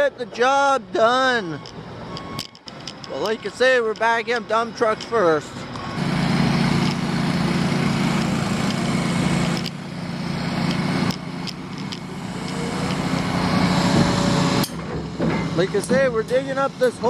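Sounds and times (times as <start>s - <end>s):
diesel construction machinery running: 0.0s - 17.0s.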